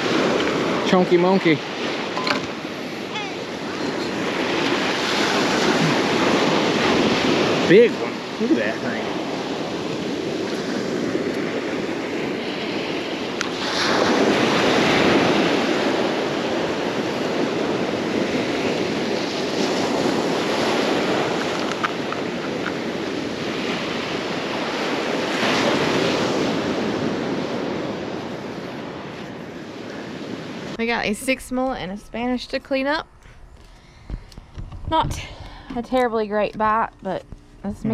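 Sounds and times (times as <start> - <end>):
ocean surf washing onto beach: 0.0 - 31.8
wind buffeting microphone: 0.0 - 37.9.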